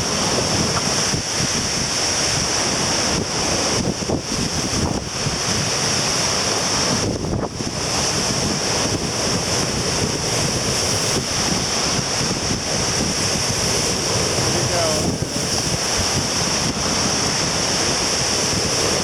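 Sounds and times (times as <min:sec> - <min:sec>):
surf breaking on shore: 0:00.0 - 0:19.0
wind buffeting the microphone: 0:00.0 - 0:19.0.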